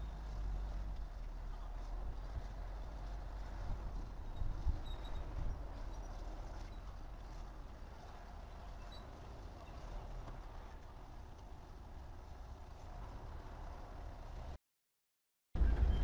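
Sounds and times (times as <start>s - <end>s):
heavy equipment engines rumbling: 0.0s - 14.6s, 15.6s - 16.0s.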